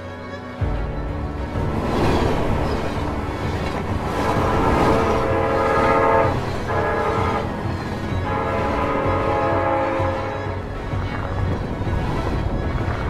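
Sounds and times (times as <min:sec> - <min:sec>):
locomotive engine and wheels rumbling: 0:00.0 - 0:13.0
train horn blasts: 0:02.4 - 0:13.0.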